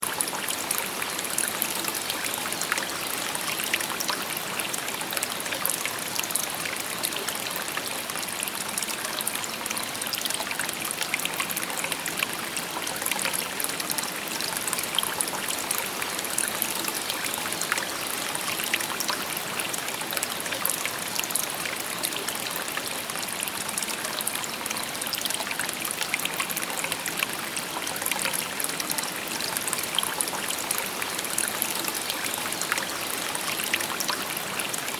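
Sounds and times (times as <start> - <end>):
stream babbling over stones: 0.0 - 34.9.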